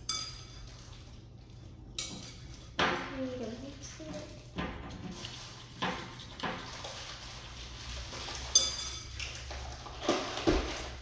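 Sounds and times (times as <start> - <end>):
spoon stirring thick slime: 0.0 - 11.0.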